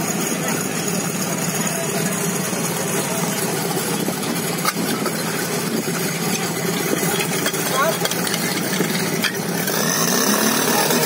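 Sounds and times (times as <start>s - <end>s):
pump engine idling: 0.0s - 11.0s.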